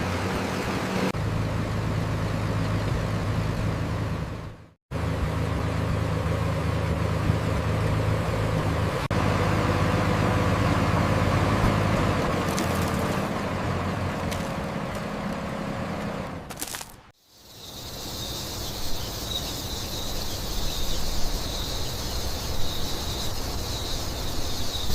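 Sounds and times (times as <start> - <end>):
construction machinery engine humming: 0.0 - 24.9.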